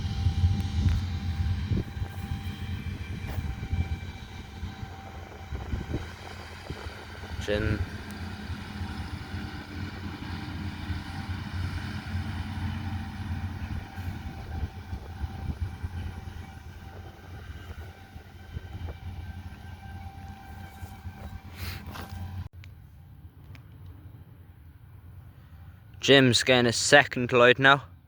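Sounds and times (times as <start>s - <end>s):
farm machinery engine droning: 0.0s - 22.5s.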